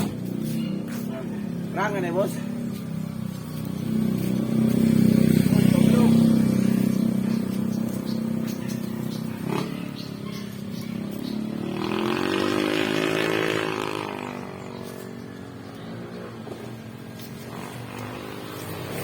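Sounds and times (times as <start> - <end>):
small motorcycle engine revving: 0.0 - 19.0.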